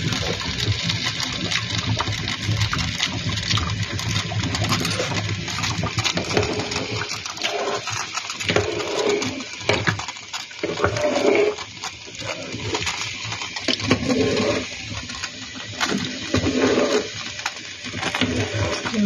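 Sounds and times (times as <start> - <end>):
soup bubbling with small pops: 0.0 - 19.0.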